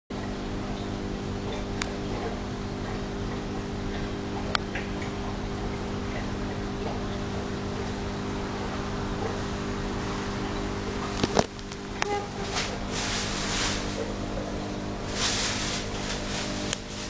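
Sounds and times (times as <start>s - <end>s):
low machine hum: 0.1s - 17.0s.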